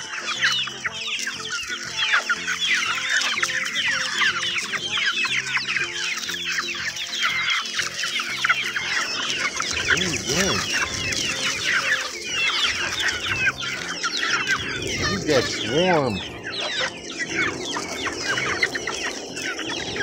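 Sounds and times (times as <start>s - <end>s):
hens clucking and squawking: 0.0s - 20.0s
music: 0.0s - 20.0s.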